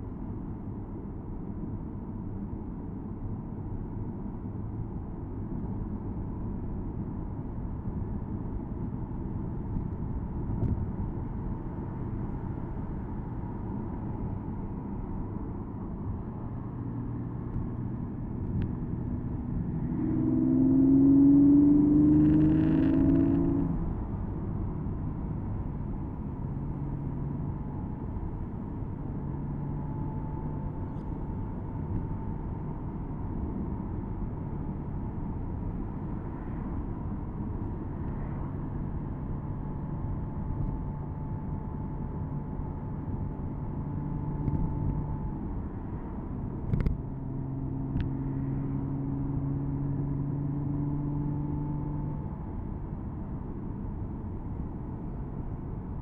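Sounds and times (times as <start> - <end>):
road and tyre noise: 0.0 - 56.0
car engine cruising: 8.2 - 56.0.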